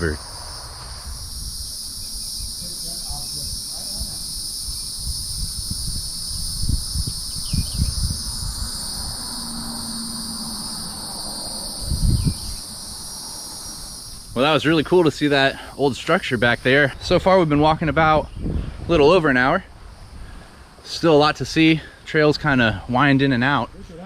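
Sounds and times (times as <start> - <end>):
insects chirping shrilly: 0.0 - 24.0.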